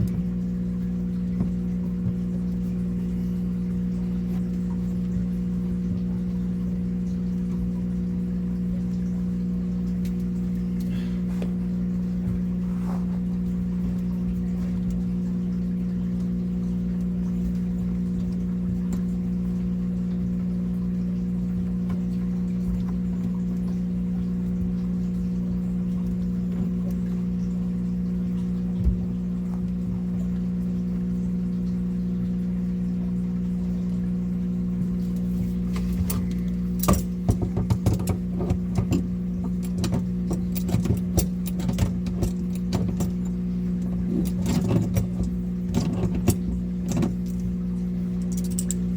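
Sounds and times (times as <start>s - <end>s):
low mechanical hum: 0.0s - 48.9s.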